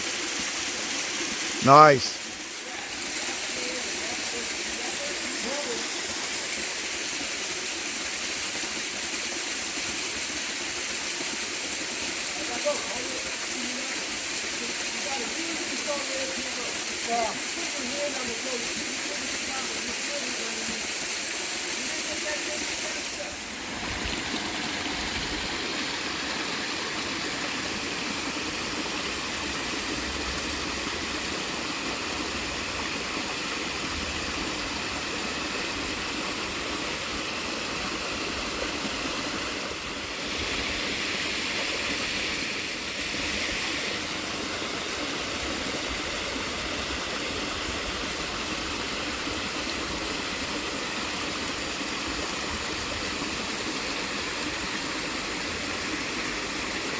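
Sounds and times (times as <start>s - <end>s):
small waterfall rushing: 0.0s - 56.9s.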